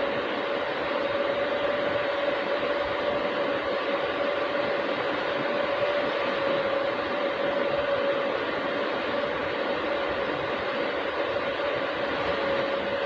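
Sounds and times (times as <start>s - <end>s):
machine hissing and humming: 0.0s - 13.0s.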